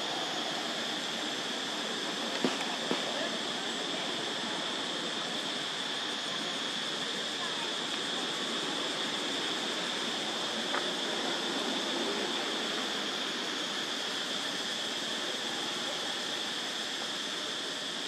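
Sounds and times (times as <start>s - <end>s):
even hiss: 0.0s - 18.0s
high-pitched insect drone: 0.0s - 18.0s.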